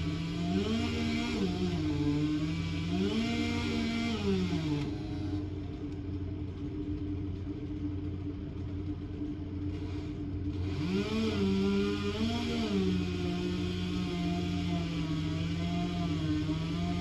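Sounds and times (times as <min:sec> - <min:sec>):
wood chipper engine running: 0:00.0 - 0:17.0.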